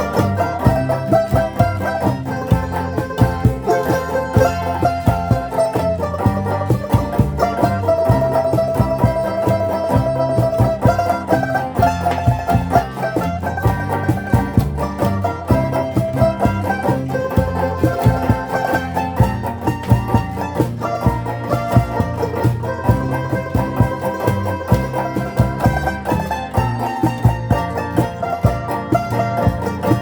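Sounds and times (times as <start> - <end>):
plucked string ensemble playing: 0.0 - 30.0.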